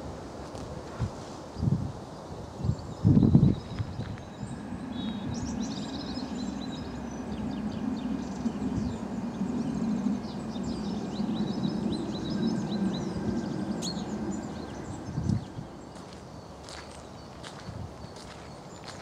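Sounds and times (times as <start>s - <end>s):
chaffinch singing and chirping: 2.7s - 19.0s.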